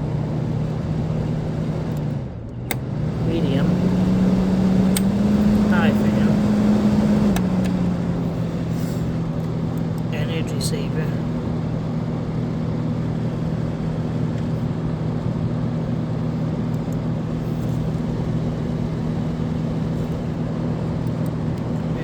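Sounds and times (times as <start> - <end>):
fan motor low hum: 0.0 - 22.0.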